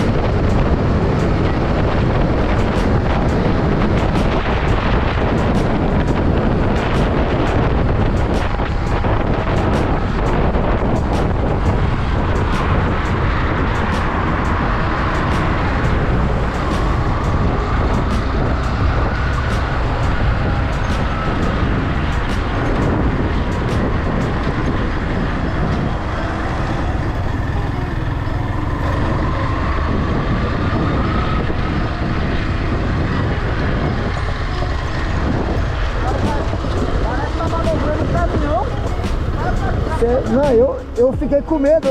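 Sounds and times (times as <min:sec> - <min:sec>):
motorcycle engine running: 0:00.0 - 0:41.9
road noise: 0:00.0 - 0:41.9.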